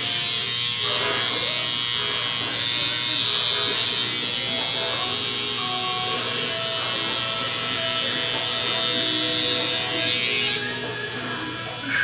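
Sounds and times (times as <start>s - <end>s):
electric hair clippers buzzing: 0.0s - 12.0s
faint background music: 0.2s - 12.0s.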